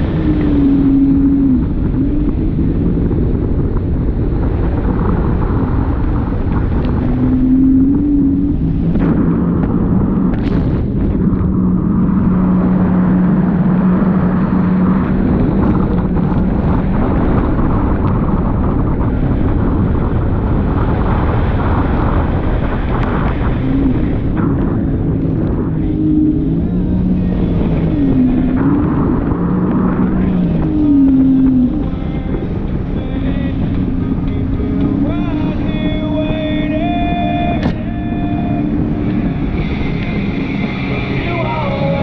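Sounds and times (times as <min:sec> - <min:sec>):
jet ski engine drone: 0:00.0 - 0:42.0
rushing water: 0:00.0 - 0:42.0
wind: 0:00.0 - 0:42.0.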